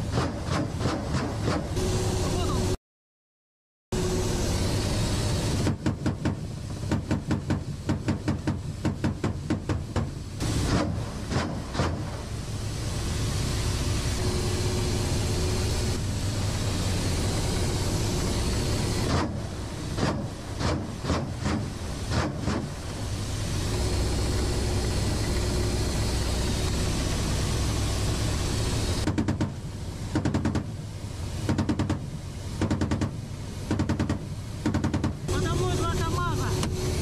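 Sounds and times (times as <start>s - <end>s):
helicopter rotor and turbine noise: 0.0s - 2.8s, 3.9s - 37.0s.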